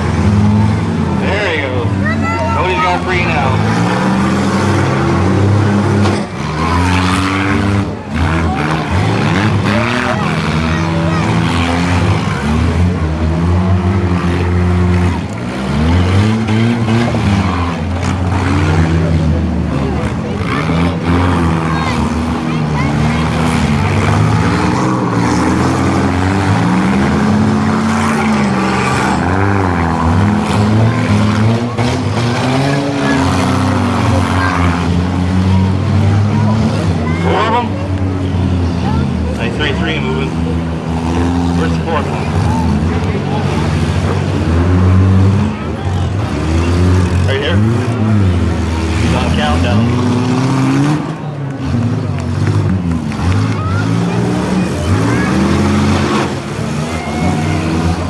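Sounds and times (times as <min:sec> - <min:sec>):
car engines revving loudly: 0:00.0 - 0:58.0.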